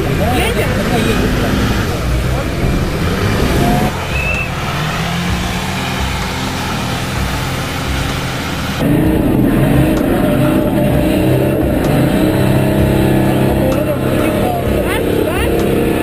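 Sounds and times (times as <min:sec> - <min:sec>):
car driving through water: 0:00.0 - 0:16.0
car engine revving: 0:00.0 - 0:16.0.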